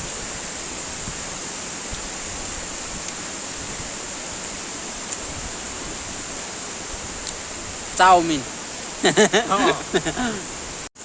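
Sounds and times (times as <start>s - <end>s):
river water rushing: 0.0s - 10.9s.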